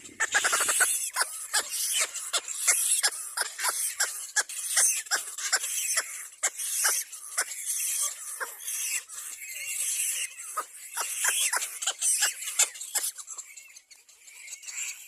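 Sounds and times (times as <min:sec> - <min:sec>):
cormorant chicks squealing: 0:00.0 - 0:15.0.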